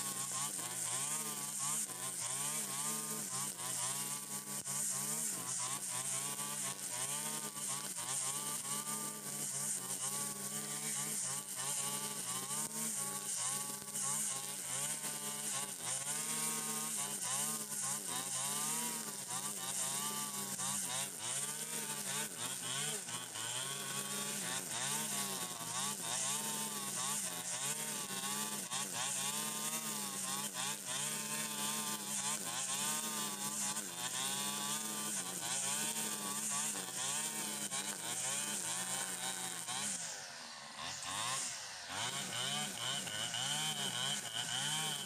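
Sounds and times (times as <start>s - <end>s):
brush cutter engine under load: 0.0s - 45.0s
grass being cut hiss: 0.0s - 45.0s.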